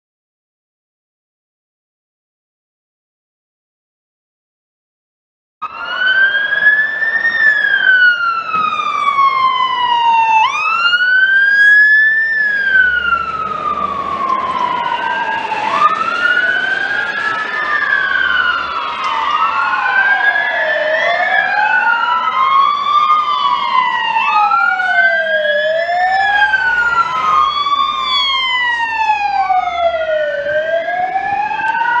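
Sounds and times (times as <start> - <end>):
emergency sirens wailing: 5.6 - 32.0.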